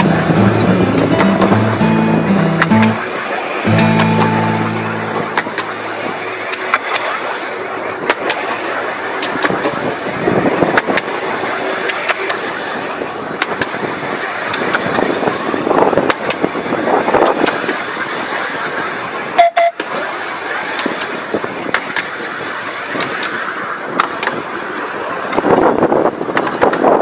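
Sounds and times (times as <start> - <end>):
tram wheels rumbling on rail: 0.0 - 27.0.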